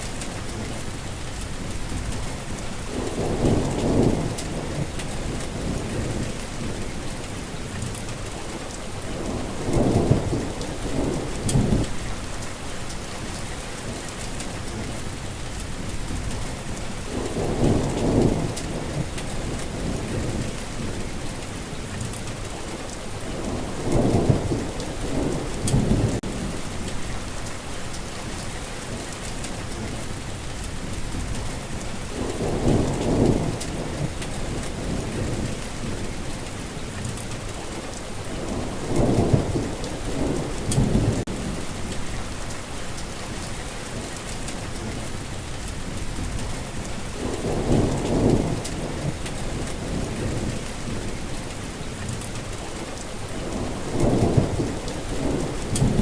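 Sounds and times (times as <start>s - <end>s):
heavy rain falling: 0.0s - 56.0s
low rolls of thunder: 1.6s - 15.0s, 15.9s - 21.5s, 23.1s - 30.0s, 30.7s - 45.3s, 46.0s - 51.3s, 52.1s - 56.0s.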